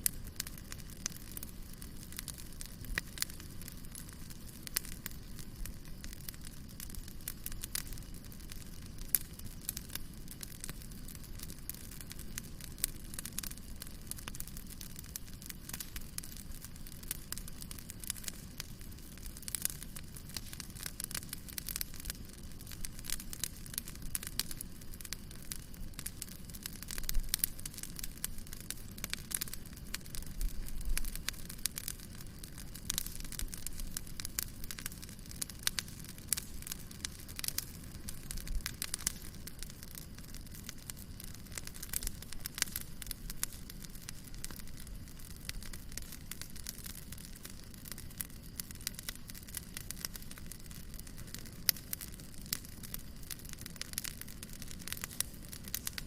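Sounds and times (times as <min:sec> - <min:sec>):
campfire crackling: 0:00.0 - 0:56.0
fire pops: 0:00.0 - 0:56.0.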